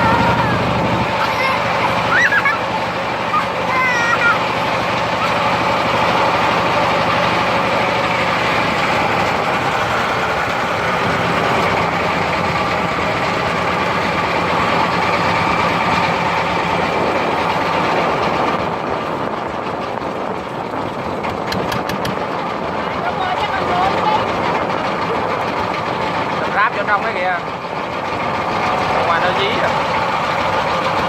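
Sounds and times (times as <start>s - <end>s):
many vehicle engines running: 0.0s - 31.0s.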